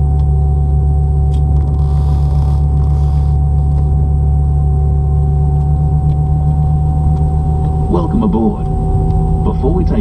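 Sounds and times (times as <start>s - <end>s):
airplane cabin rumble: 0.0s - 10.0s
constant whine: 0.0s - 10.0s.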